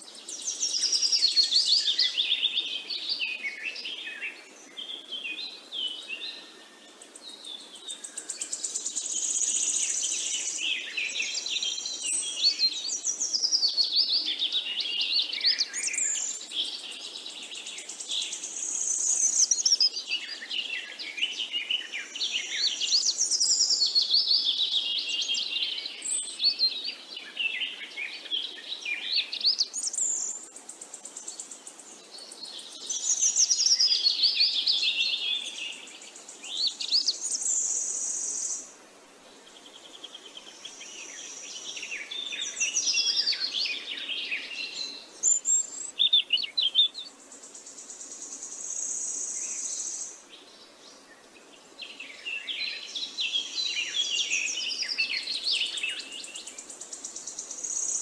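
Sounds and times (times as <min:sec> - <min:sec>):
chorus of birds singing: 0:00.0 - 0:58.0.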